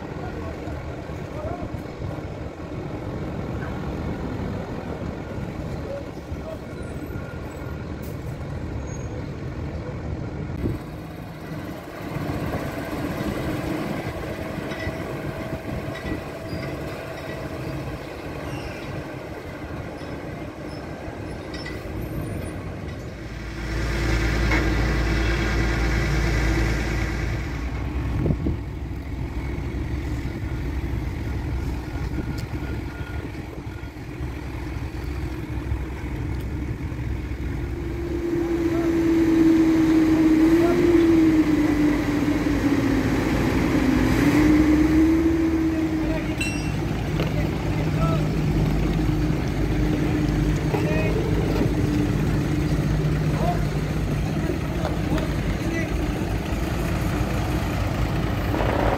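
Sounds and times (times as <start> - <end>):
diesel engines of trucks running: 0.0 - 58.9.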